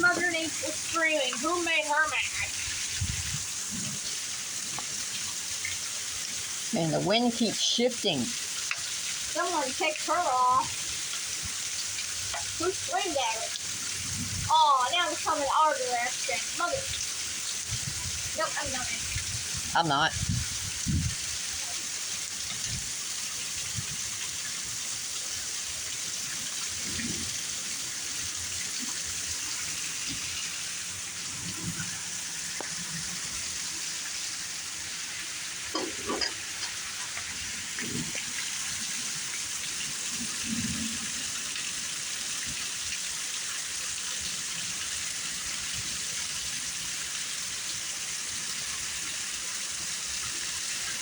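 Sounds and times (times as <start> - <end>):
heavy rain hiss: 0.0 - 51.0.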